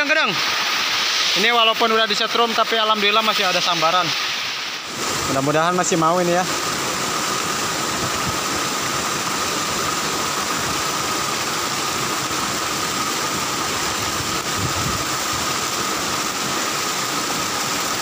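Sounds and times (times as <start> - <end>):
water cascading down rocks: 0.0 - 18.0.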